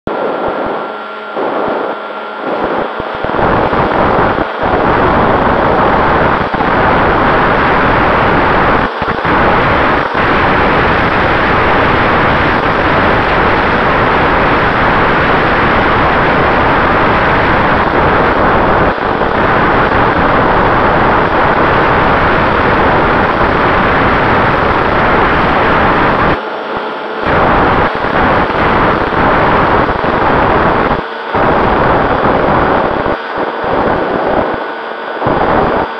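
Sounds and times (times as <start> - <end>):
electric motor and propeller whine: 0.1 - 35.9
wind rushing over microphone: 0.1 - 35.9.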